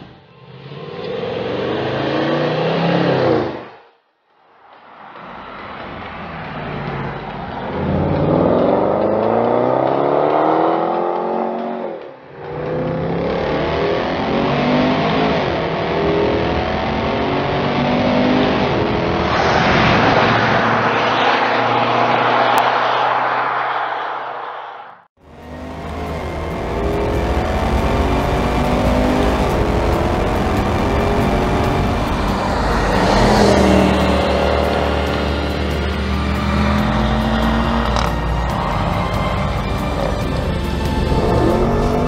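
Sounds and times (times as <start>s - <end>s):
car engine accelerating hard: 0.0s - 3.7s, 5.2s - 23.5s, 25.2s - 42.0s.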